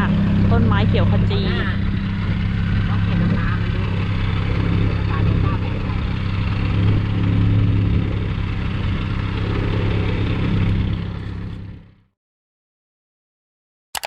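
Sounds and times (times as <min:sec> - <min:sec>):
vehicle engine droning: 0:00.0 - 0:12.1.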